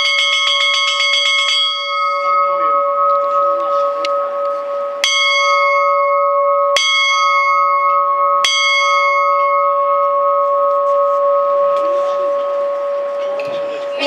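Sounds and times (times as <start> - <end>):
bell ringing: 0.0 - 14.0.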